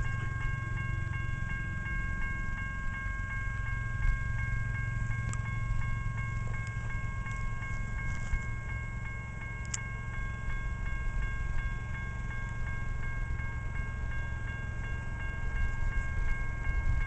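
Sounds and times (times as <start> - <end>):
railroad crossing bell ringing: 0.0 - 17.0
steady low rumble: 0.0 - 17.0.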